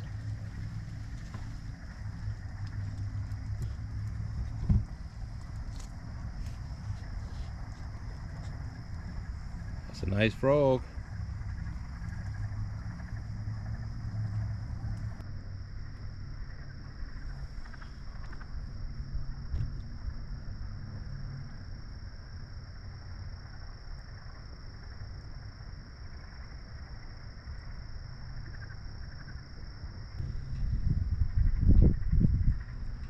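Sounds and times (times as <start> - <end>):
low motor hum: 0.0 - 33.0
high-pitched insect drone: 5.0 - 33.0.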